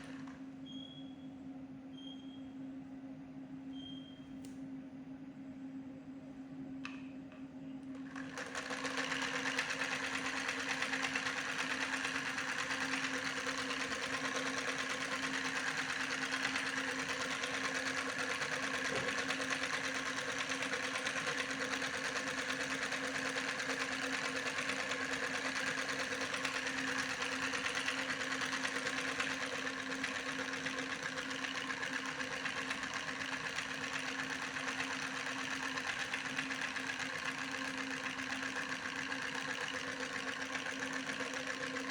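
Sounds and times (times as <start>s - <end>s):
small motor humming: 0.0s - 1.0s, 8.0s - 41.9s.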